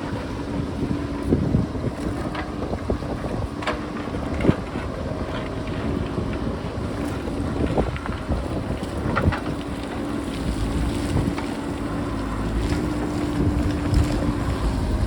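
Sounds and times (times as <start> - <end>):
diesel engine running: 0.0 - 15.0
wind buffeting microphone: 0.0 - 15.0.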